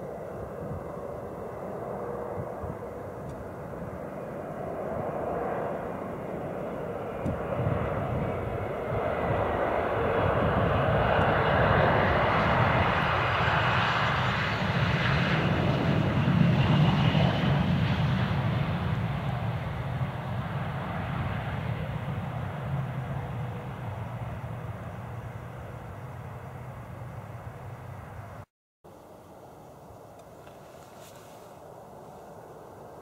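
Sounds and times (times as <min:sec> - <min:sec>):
jet roar with whistling whine: 0:00.0 - 0:28.5.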